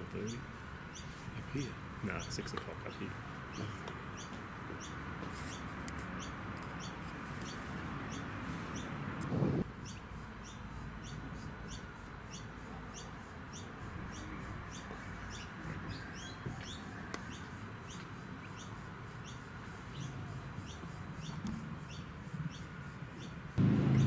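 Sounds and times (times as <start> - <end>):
steady outdoor hum: 0.0 - 24.0
small bird chirping: 0.2 - 9.0, 9.8 - 24.0.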